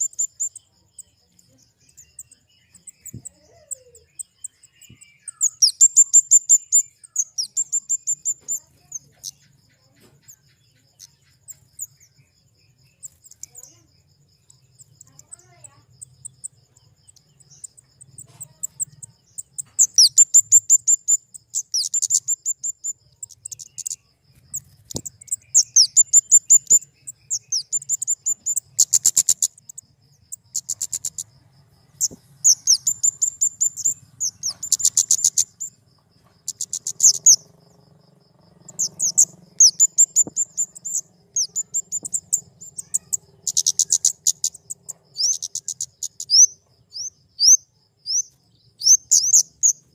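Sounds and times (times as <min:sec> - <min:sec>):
bird high-pitched chirps: 0:00.0 - 0:49.9.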